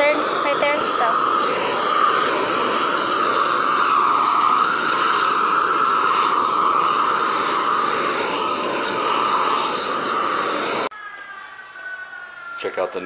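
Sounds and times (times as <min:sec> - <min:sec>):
gas torch flame rushing: 0:00.0 - 0:10.9.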